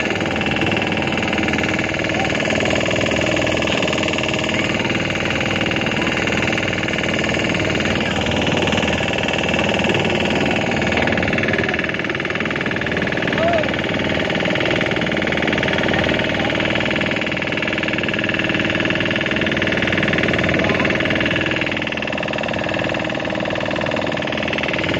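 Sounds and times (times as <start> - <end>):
motorboat engine running: 0.0 - 24.9.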